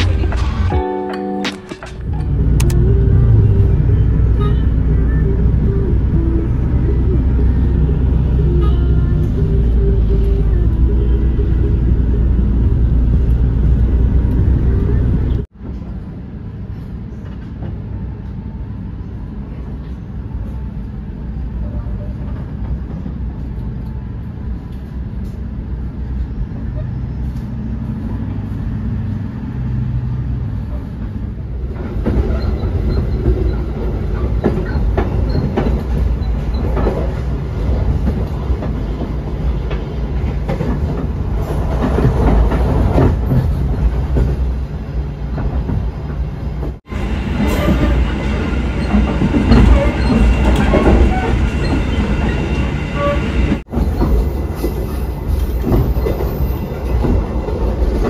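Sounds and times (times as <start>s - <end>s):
train wheels rumbling on rails: 0.0s - 0.8s, 1.6s - 58.0s.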